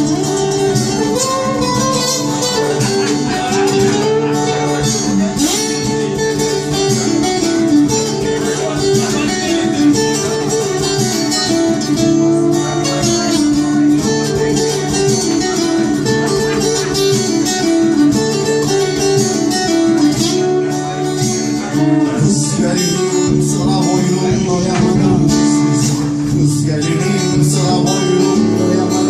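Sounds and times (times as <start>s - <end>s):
folk-rock guitar music: 0.0s - 29.0s.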